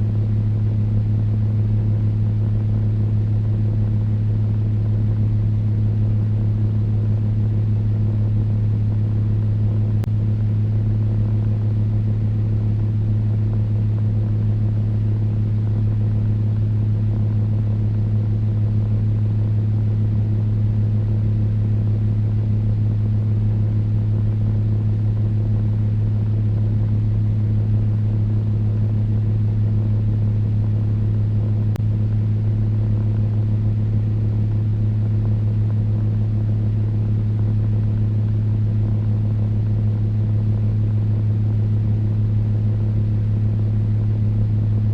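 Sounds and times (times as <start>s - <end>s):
electric fan humming: 0.0s - 44.9s.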